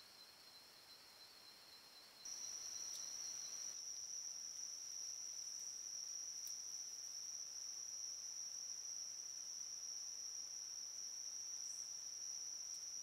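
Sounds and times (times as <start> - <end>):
high-pitched insect trill: 0.0 - 13.0
lower insect trill: 0.0 - 13.0.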